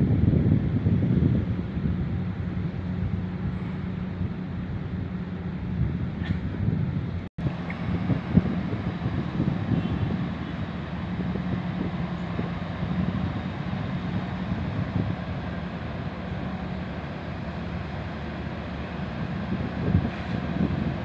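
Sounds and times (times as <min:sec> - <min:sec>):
ferry diesel engines droning: 0:00.0 - 0:21.0
wind buffeting microphone: 0:00.0 - 0:21.0.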